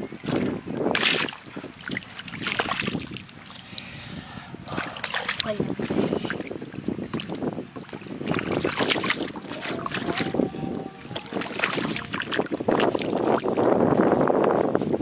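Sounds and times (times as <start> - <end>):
muddy water splashing: 0.0 - 14.2.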